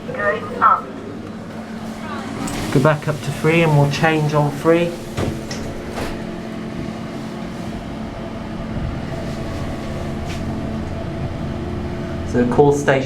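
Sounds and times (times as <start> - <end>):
lift hum and rumble: 0.0 - 13.0.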